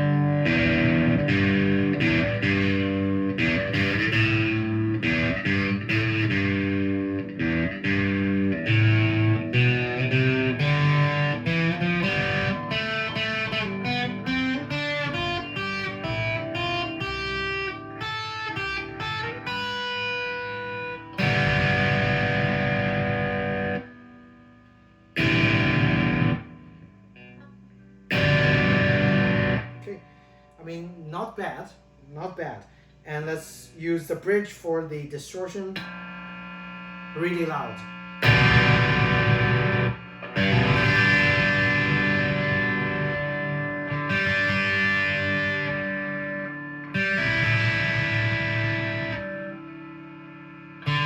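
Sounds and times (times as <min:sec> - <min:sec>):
distorted electric guitar: 0:00.0 - 0:51.0.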